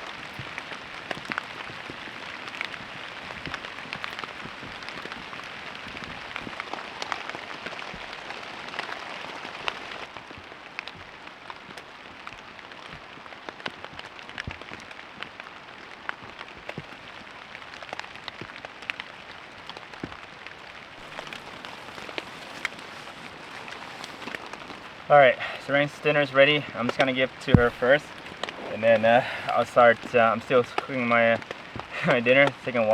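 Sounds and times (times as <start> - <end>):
rain falling: 0.0 - 32.9
raindrops tapping: 0.0 - 32.9.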